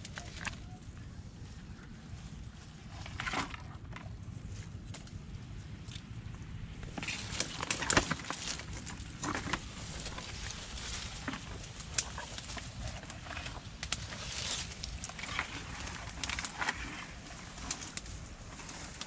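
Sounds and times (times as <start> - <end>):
twigs and leaves crackling: 0.0 - 19.0.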